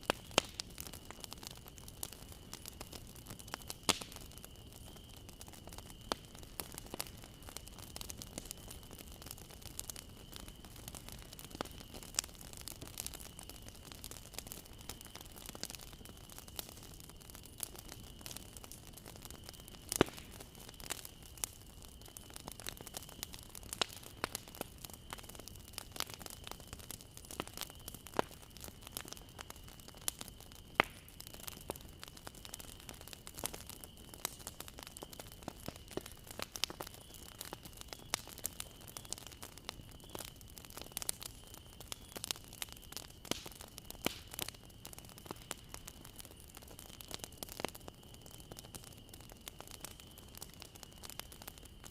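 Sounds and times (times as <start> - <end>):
bonfire wood snapping and popping: 0.0 - 51.9
soft hiss of burning: 0.0 - 51.9.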